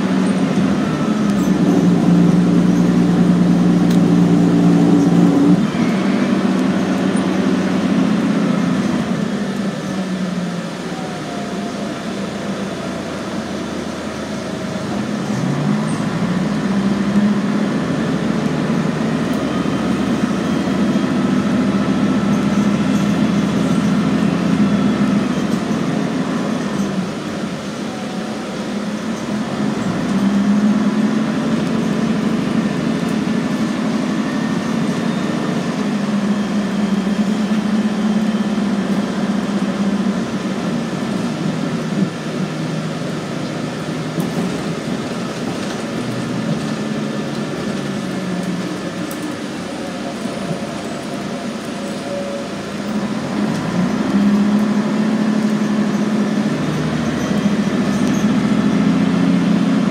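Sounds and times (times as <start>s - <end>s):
bus diesel engine drone: 0.0s - 59.9s
road noise: 0.0s - 59.9s.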